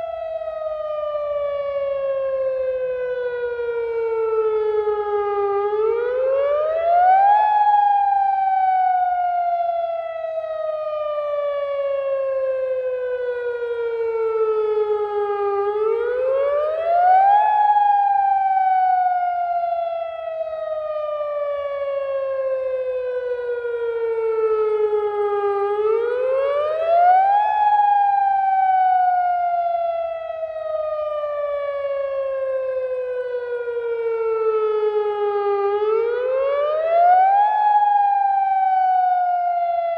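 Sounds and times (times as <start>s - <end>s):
rising and falling warning siren: 0.0s - 39.9s.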